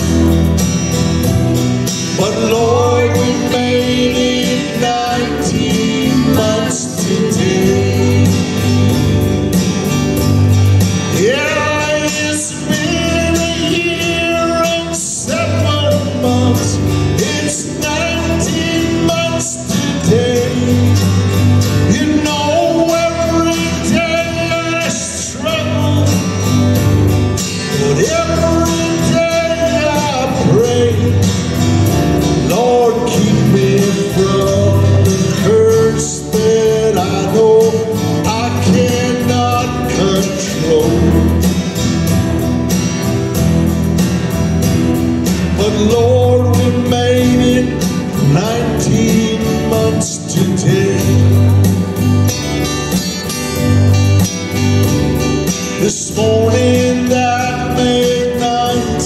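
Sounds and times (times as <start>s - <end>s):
acoustic guitar: 0.0s - 59.0s
keyboard accompaniment: 0.0s - 59.0s
man singing: 1.9s - 9.6s, 10.9s - 26.8s, 27.4s - 41.8s, 45.2s - 51.5s, 55.4s - 59.0s.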